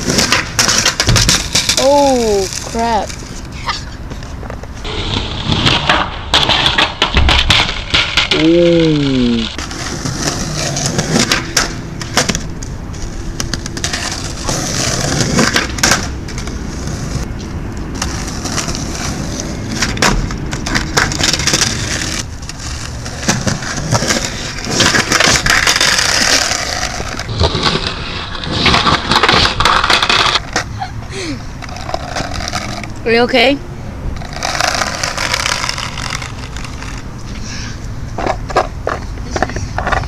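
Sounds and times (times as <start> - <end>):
skateboard clacking on pavement: 0.0 - 3.3, 5.6 - 8.6, 9.4 - 30.7, 31.6 - 33.2, 34.2 - 37.1, 38.1 - 40.0
skateboard wheels rolling on concrete: 0.0 - 40.0.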